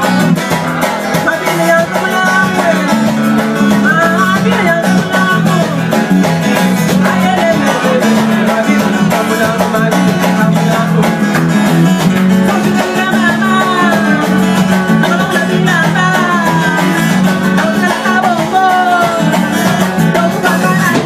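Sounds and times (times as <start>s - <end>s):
bass: 0.0s - 21.0s
drums: 0.0s - 21.0s
person singing: 0.0s - 21.0s
strummed acoustic guitar: 0.0s - 21.0s.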